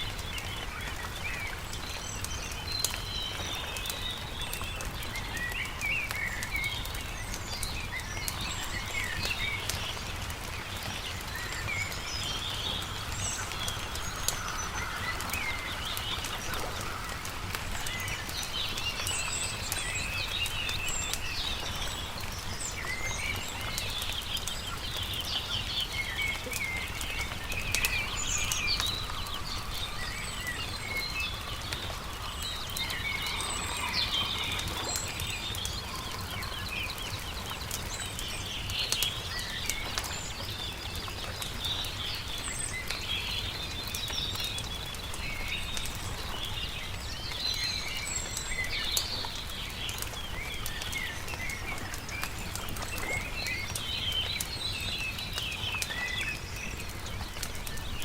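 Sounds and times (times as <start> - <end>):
campfire crackling: 0.0 - 58.0
songbirds chirping: 0.0 - 58.0.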